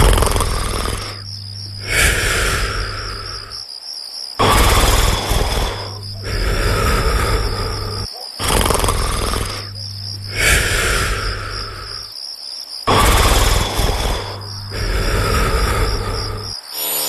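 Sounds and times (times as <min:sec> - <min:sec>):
cartoon snoring with whistle: 0:00.0 - 0:03.6, 0:04.4 - 0:12.1, 0:12.9 - 0:16.6
crickets chirping: 0:00.0 - 0:17.0.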